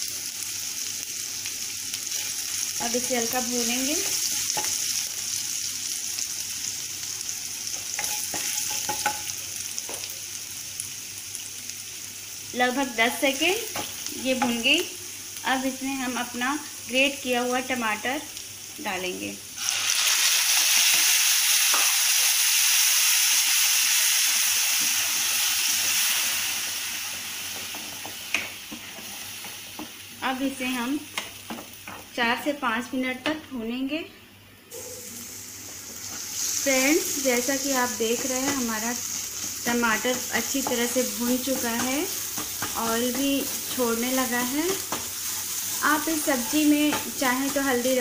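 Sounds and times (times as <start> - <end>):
paste sizzling in hot oil: 0.0 - 32.2, 35.0 - 48.0.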